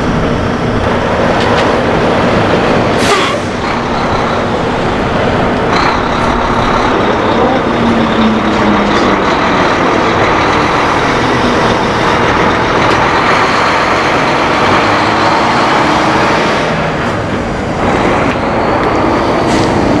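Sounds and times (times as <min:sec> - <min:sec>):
diesel truck passing: 0:00.0 - 0:20.0.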